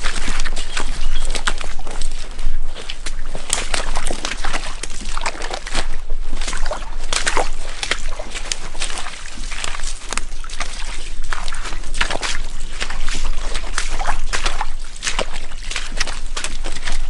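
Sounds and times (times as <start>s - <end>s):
footsteps splashing through water: 0.0s - 17.0s.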